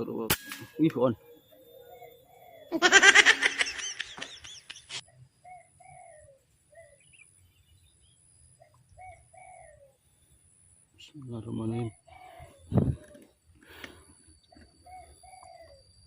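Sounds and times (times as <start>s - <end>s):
bird calling: 0.0s - 10.4s, 11.6s - 16.0s.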